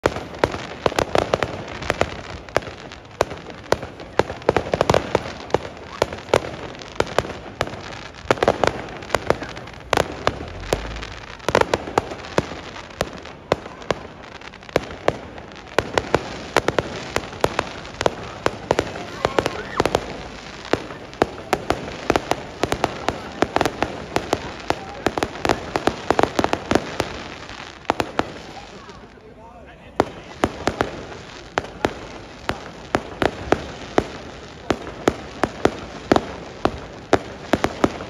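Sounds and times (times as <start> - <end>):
faint fireworks pops: 0.0 - 38.0
firecrackers banging: 0.0 - 38.0.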